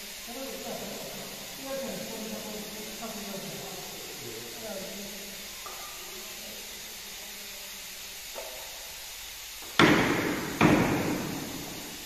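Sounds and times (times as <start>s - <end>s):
steady faint hiss: 0.0s - 12.0s.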